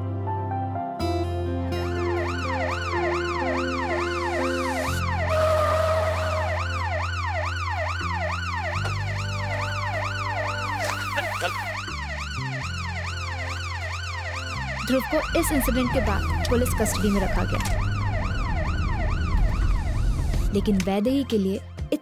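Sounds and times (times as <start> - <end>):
police siren wailing: 1.9 - 20.6.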